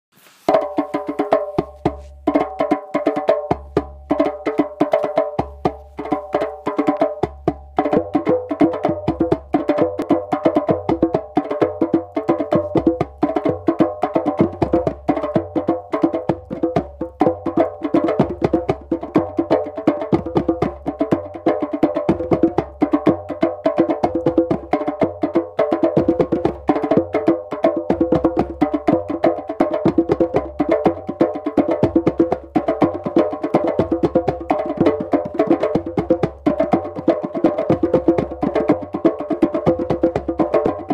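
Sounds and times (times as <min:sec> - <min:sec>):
fast wooden percussion music: 0:00.5 - 0:40.9.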